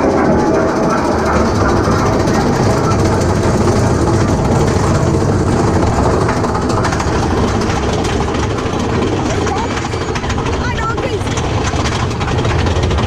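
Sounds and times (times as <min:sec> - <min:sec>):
roller coaster cars rumbling on track: 0:00.0 - 0:13.0.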